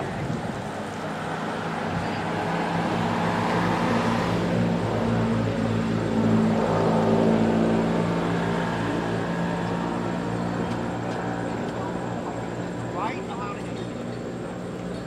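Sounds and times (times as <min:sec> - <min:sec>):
background rush of noise: 0:00.0 - 0:15.0.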